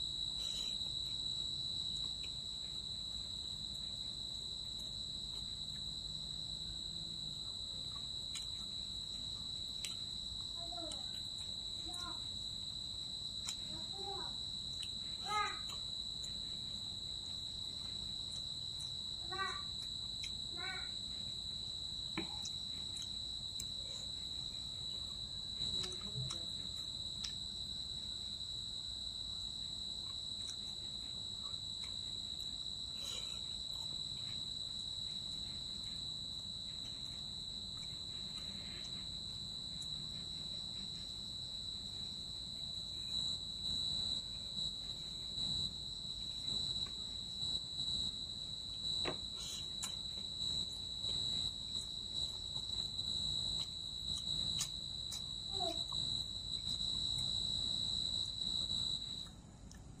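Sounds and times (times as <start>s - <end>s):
high-pitched insect trill: 0.1s - 59.3s.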